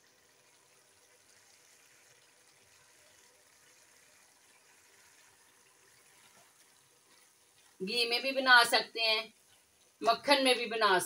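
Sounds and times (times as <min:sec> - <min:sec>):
food simmering in a pot: 0:00.0 - 0:11.0.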